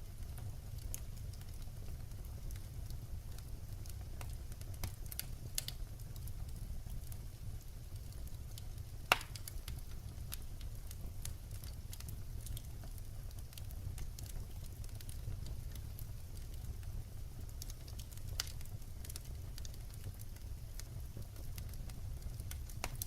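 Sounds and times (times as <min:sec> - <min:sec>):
firewood burning: 0:00.0 - 0:23.0.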